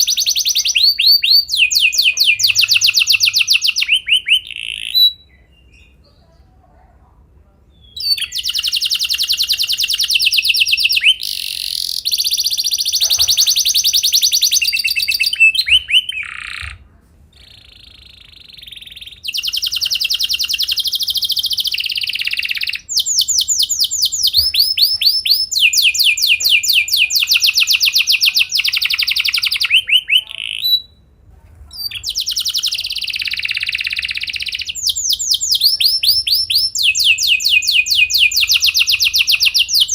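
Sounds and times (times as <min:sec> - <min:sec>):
canary singing trills: 0:00.0 - 0:06.5, 0:07.7 - 0:31.1, 0:31.7 - 0:39.9.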